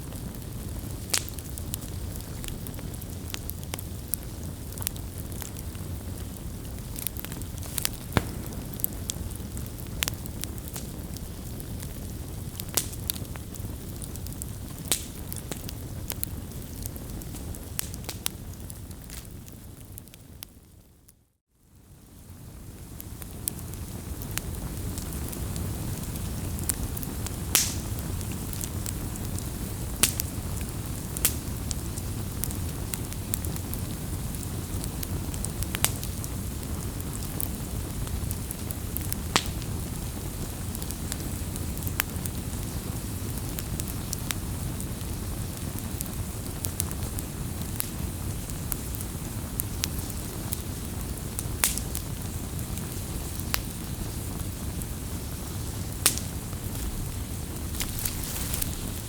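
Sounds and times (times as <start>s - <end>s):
campfire crackling and popping: 0.0s - 20.6s, 22.0s - 59.0s.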